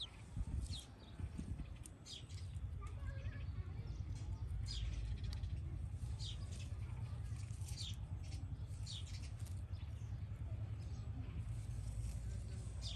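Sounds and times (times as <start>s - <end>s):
low rumble on microphone: 0.0s - 12.9s.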